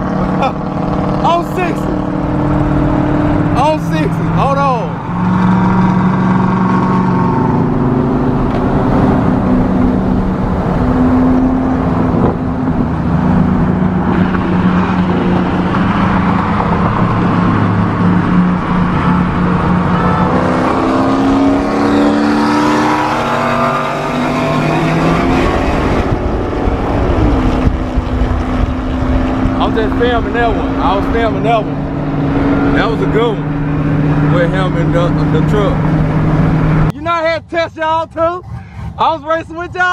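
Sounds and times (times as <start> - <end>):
car engines at full throttle: 0.0 - 39.9.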